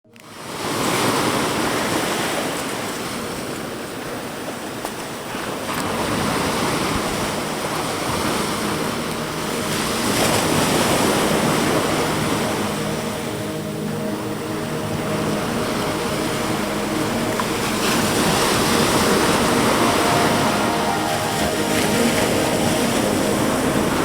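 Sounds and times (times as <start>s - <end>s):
ocean surf breaking on shore: 0.3s - 24.0s.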